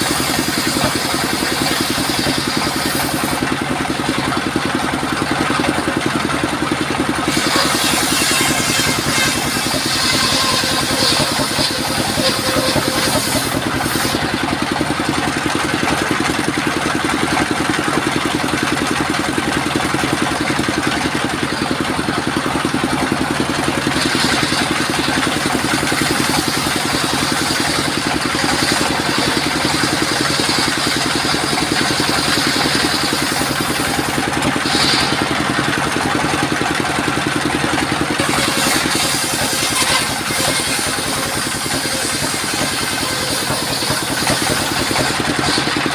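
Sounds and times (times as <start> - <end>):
saw blade cutting wood: 0.0 - 19.1, 19.9 - 45.9
sawmill engine running: 0.0 - 45.9.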